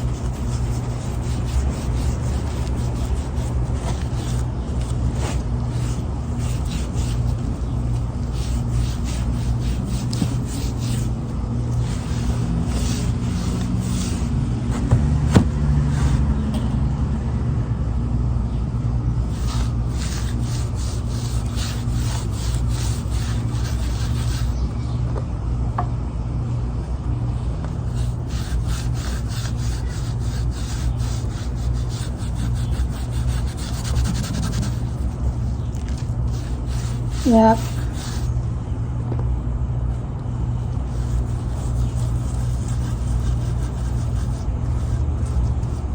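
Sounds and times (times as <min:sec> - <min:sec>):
cloth rubbing on wood: 0:00.0 - 0:16.3, 0:19.2 - 0:24.6, 0:27.3 - 0:38.4, 0:40.6 - 0:45.9
steady low hum: 0:00.0 - 0:45.9.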